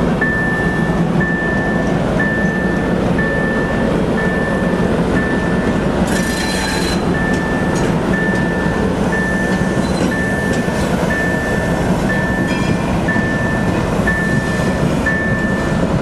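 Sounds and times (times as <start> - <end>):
diesel locomotive rumbling: 0.0 - 16.0
high warning beeps: 0.2 - 16.0.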